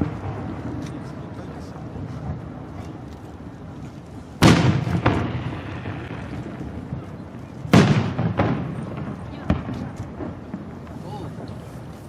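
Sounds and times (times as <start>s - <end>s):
fireworks booming: 0.0s - 2.7s, 4.2s - 12.0s.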